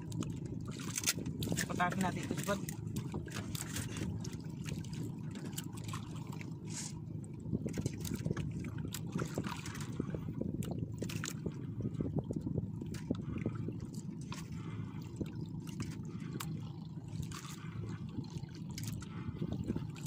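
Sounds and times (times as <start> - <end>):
small splashes and drips: 0.0 - 20.0
water sloshing against a boat: 0.0 - 20.0.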